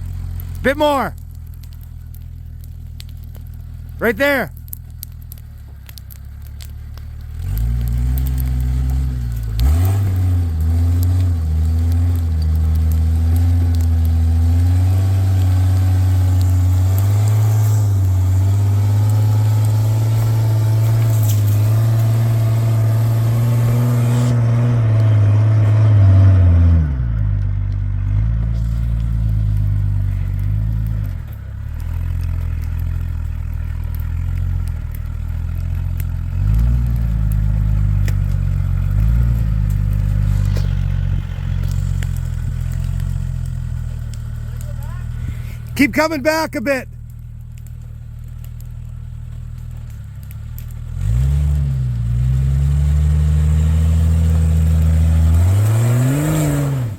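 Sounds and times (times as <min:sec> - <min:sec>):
off-road vehicle engine revving: 0:00.0 - 0:05.3, 0:05.9 - 0:56.9.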